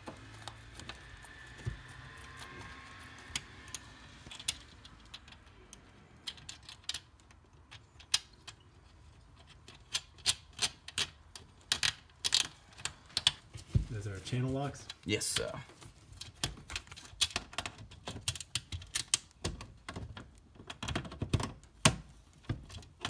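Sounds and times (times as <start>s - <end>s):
small metal clicks and taps: 0.3s - 13.4s, 16.2s - 23.0s.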